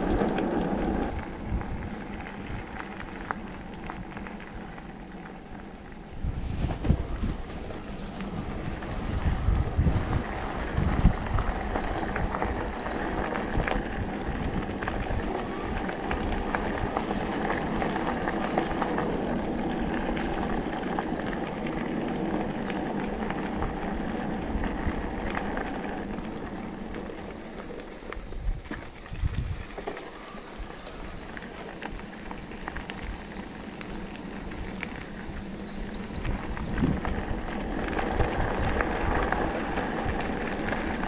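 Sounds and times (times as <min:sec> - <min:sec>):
bike jolting over bumps: 0:00.0 - 0:41.0
bike rattling: 0:00.0 - 0:41.0
tyre rumble on dirt: 0:06.2 - 0:41.0.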